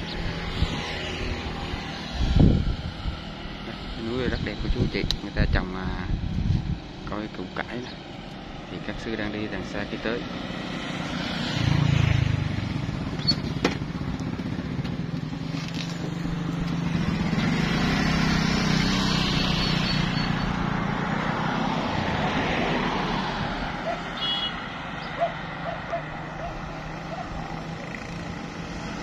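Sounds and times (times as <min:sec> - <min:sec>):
vehicle passing: 0:00.0 - 0:04.6, 0:07.6 - 0:13.2, 0:13.8 - 0:29.0.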